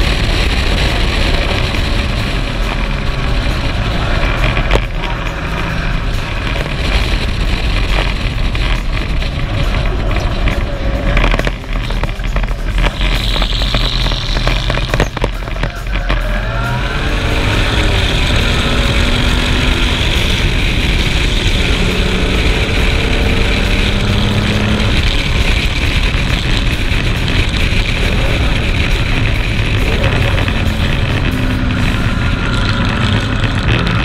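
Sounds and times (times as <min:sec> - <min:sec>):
racing car engine accelerating: 0:00.0 - 0:34.0
rattling crackles: 0:00.0 - 0:34.0
wind rush on microphone: 0:00.0 - 0:34.0.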